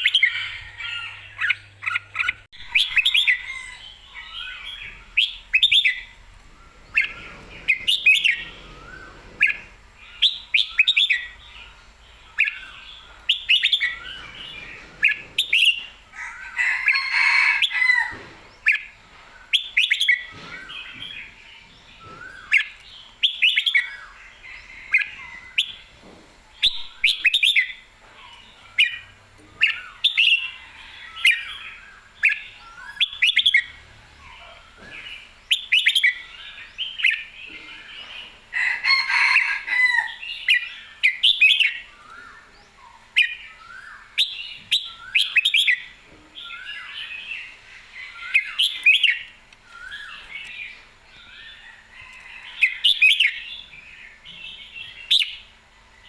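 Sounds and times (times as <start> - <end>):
bird singing warbled phrases: 0.0 - 25.9, 26.5 - 39.4, 40.0 - 56.0.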